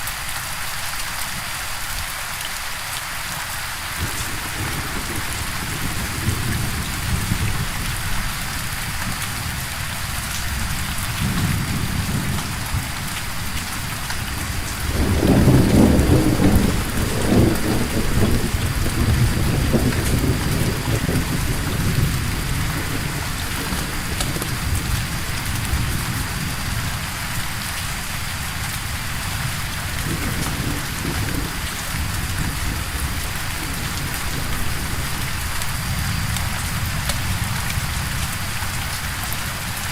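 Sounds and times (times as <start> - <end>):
steady rainfall: 0.0 - 39.9
thunder rumbling: 4.0 - 39.9.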